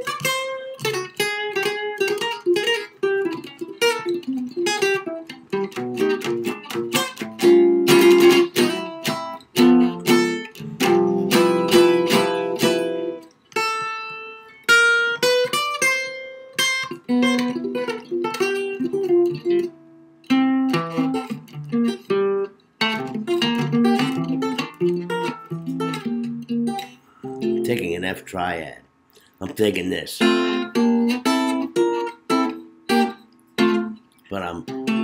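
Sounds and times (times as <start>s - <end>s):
solo jazz guitar: 0.0s - 28.4s, 29.2s - 35.0s.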